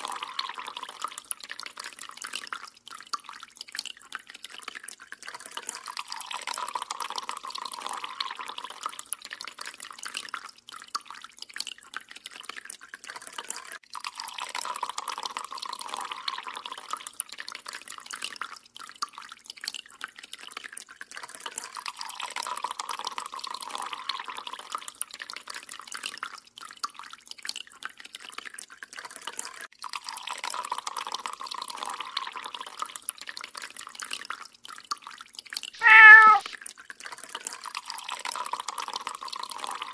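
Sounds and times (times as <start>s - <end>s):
water dripping into sink: 0.0s - 39.9s.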